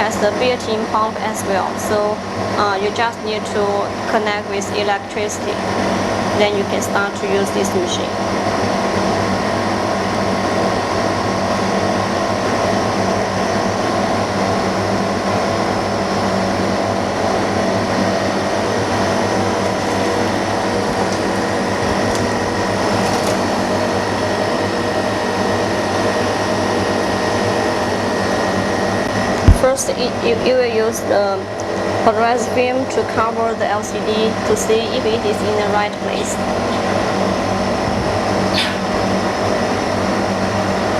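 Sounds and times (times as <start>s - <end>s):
electric motor and fan hum: 0.0s - 40.9s.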